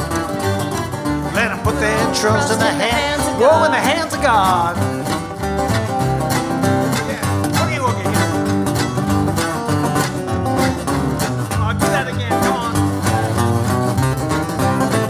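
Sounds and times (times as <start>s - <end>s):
fingerpicked resonator guitar: 0.0s - 15.0s
sliding guitar notes: 0.0s - 15.0s
upright bass line: 0.0s - 15.0s.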